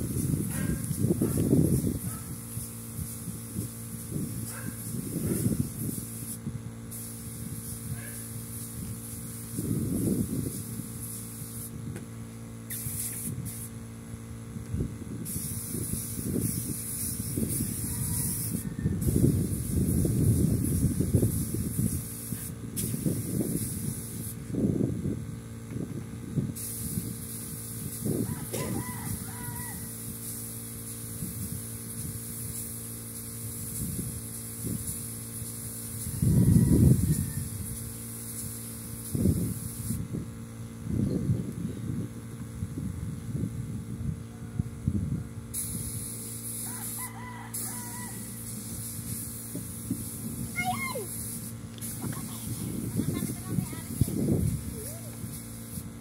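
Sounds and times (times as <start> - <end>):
spray gun hissing: 0.0 - 11.9, 12.6 - 13.8, 15.2 - 24.9, 26.4 - 40.2, 45.5 - 56.0
air compressor humming: 0.0 - 56.0.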